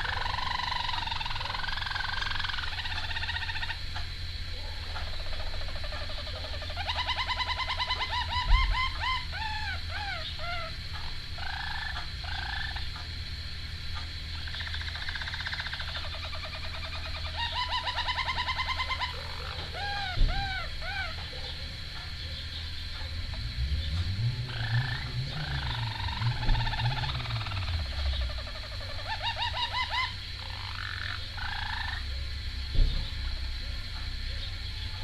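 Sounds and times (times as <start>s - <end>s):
canary singing trills: 0.0s - 13.2s, 13.9s - 35.0s
low hum: 0.0s - 35.0s.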